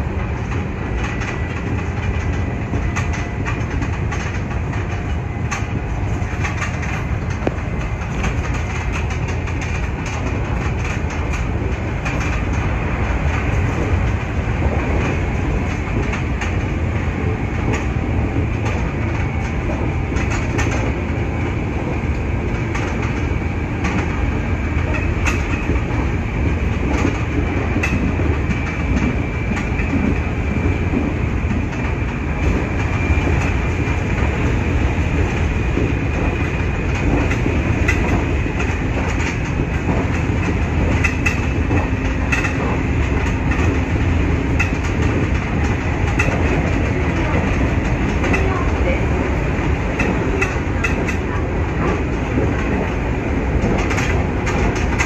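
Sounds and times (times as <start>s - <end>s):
train wheels rumbling on rail: 0.0s - 55.0s
clicks over rail joints: 0.2s - 55.0s.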